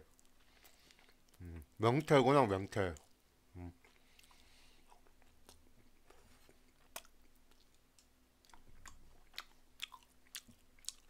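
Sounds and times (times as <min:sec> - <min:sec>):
faint chewing: 0:00.0 - 0:02.2, 0:02.8 - 0:11.0.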